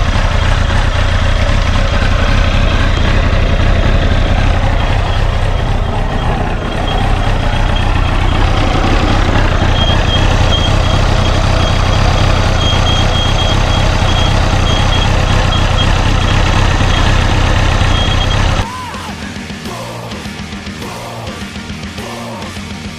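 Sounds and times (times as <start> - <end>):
high-pitched metallic whine: 0.0 - 18.7
motorcycle engine running: 0.0 - 18.7.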